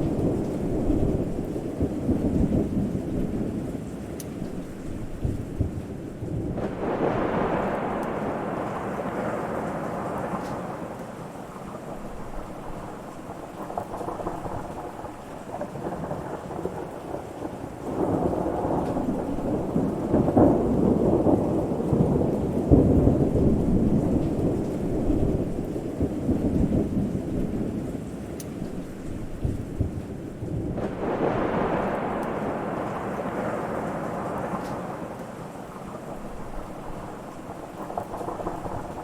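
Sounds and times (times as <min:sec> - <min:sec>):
steady rain: 0:00.0 - 0:39.0
thunder rumbling: 0:00.0 - 0:39.0.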